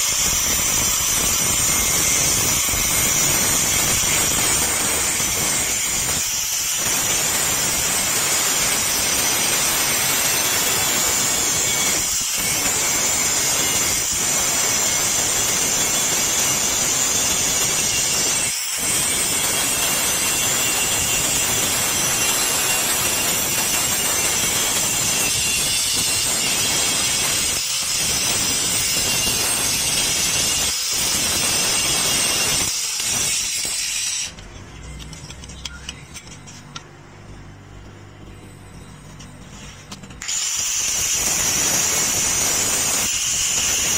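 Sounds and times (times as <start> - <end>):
angle grinder grinding steel: 0.0 - 36.8, 38.7 - 43.9.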